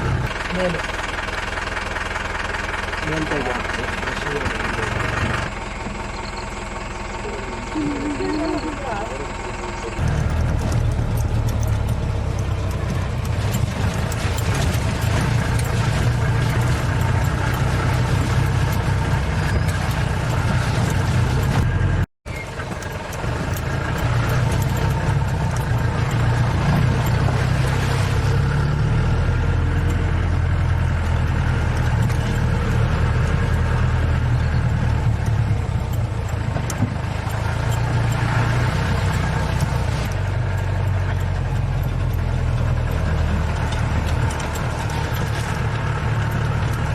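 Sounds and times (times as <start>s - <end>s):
road and wind noise: 0.0s - 46.9s
vehicle engine humming: 0.0s - 46.9s.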